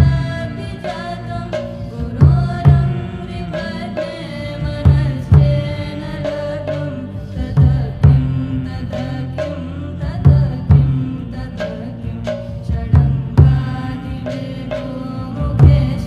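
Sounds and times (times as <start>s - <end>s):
deep drum strikes: 0.0s - 14.3s, 15.2s - 16.0s
chanted vocal melody: 0.0s - 16.0s
steady drone: 0.0s - 16.0s.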